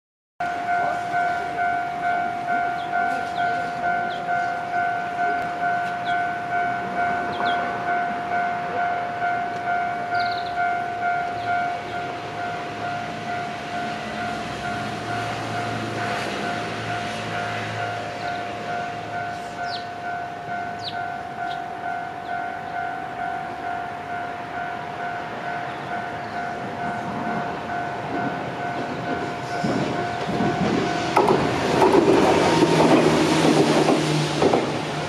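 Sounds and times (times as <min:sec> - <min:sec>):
level crossing alarm dinging: 0:00.4 - 0:31.6.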